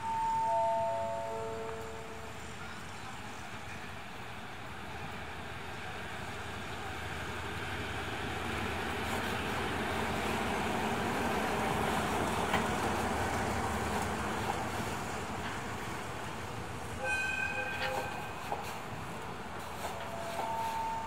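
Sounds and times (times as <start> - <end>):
train engine and wheels rumbling: 0.0 - 21.0.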